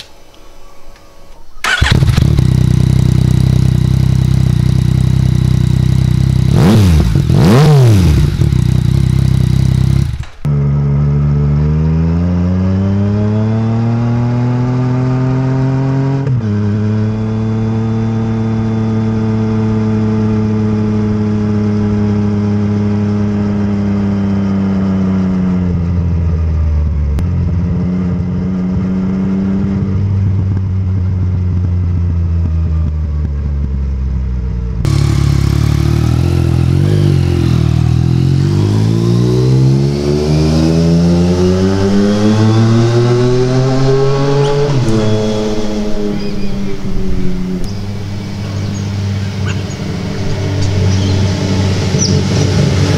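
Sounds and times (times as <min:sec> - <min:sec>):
motorcycle engine: 0:00.0 - 0:52.9.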